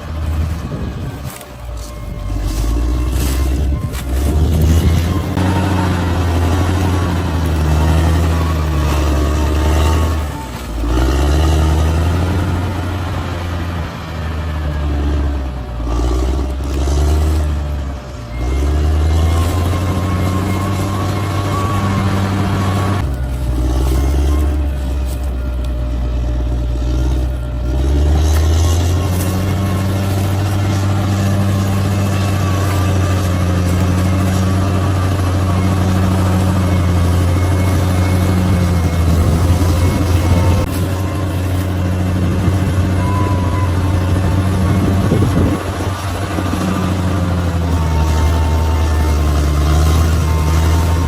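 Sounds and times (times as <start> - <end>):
bulldozer engine under load: 0.0 - 51.0.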